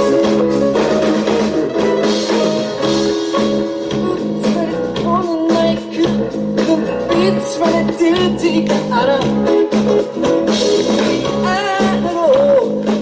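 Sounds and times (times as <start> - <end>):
rock band playing instrumental: 0.0 - 13.0.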